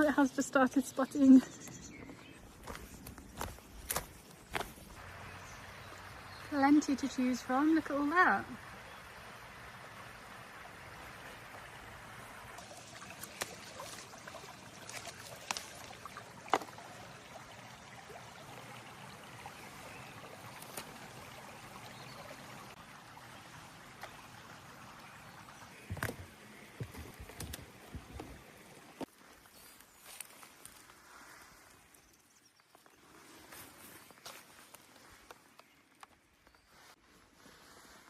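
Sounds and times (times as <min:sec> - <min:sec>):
running stream: 0:00.0 - 0:38.0.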